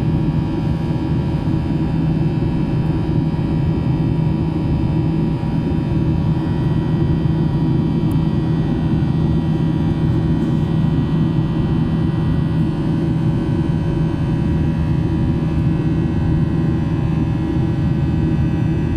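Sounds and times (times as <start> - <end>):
jet engine rumble: 0.0 - 18.9.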